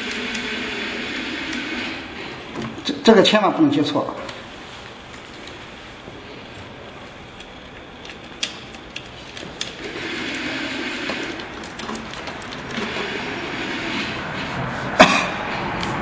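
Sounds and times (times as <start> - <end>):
steady rumbling background noise: 0.0 - 16.0.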